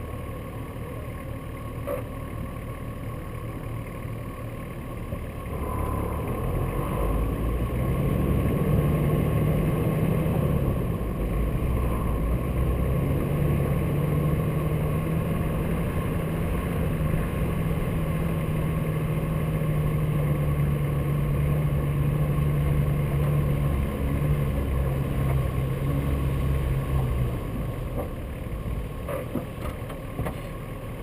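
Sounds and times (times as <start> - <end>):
suv engine running under load: 0.0 - 31.0.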